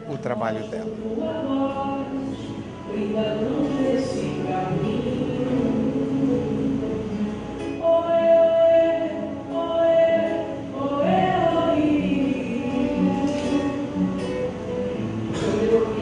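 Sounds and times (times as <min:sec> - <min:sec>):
musical accompaniment: 0:00.0 - 0:16.0
person singing long held notes: 0:00.8 - 0:07.1, 0:07.7 - 0:16.0.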